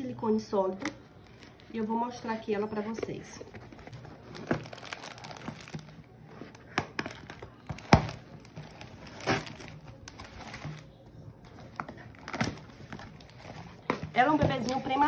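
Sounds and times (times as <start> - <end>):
rustling cardboard and paper: 1.2 - 15.0.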